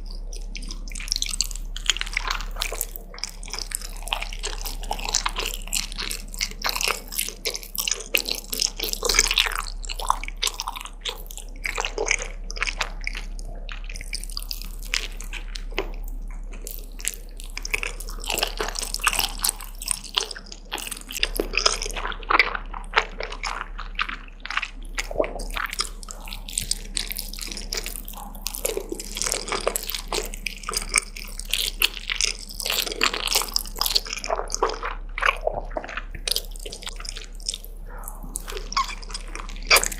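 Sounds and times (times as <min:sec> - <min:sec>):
wet chewing and mouth smacks: 0:00.0 - 0:39.9.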